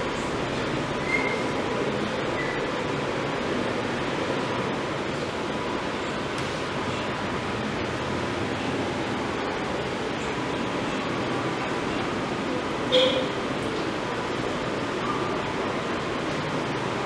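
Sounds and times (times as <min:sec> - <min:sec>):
rushing room noise: 0:00.0 - 0:17.0.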